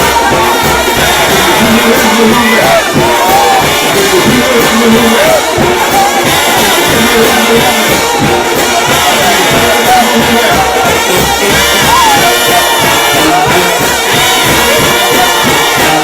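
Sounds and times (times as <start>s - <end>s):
crowd of worshippers: 0.0s - 16.0s
trombone band playing gospel music: 0.0s - 16.0s.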